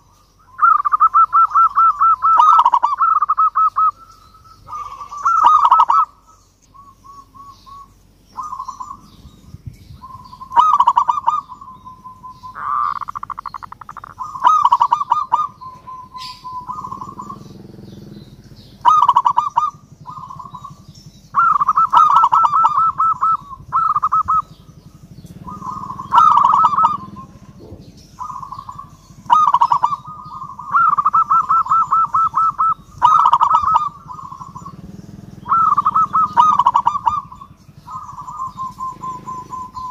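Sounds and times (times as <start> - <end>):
dove trilling coos: 0.0 - 39.9.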